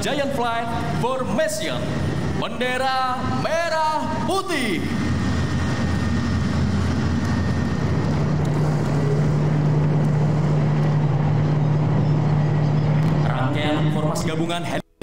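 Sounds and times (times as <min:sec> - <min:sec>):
helicopter rotor and engine drone: 0:00.0 - 0:14.8.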